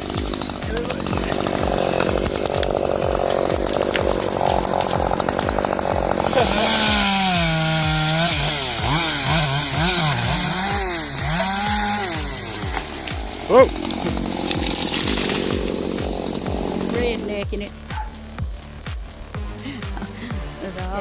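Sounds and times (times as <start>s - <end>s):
chainsaw revving: 0.0s - 21.0s
regular low thump: 0.0s - 21.0s.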